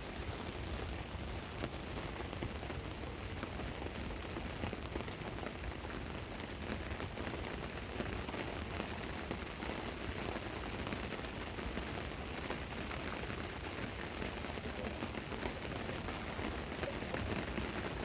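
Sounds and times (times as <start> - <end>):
rain pattering on a tarp: 0.0 - 18.0.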